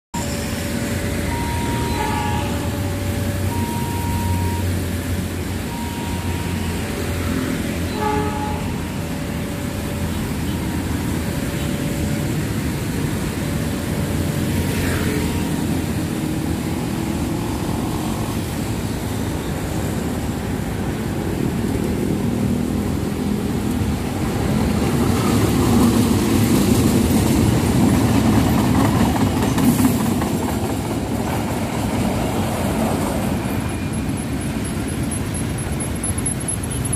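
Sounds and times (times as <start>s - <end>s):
diesel locomotive engine: 0.1s - 36.9s
rail noise: 0.1s - 36.9s.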